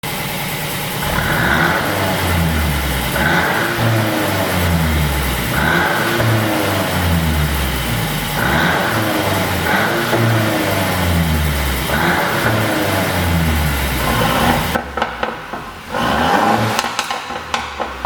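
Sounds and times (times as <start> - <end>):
car engine revving: 0.7 - 18.0
exhaust pops and crackles: 1.0 - 18.0.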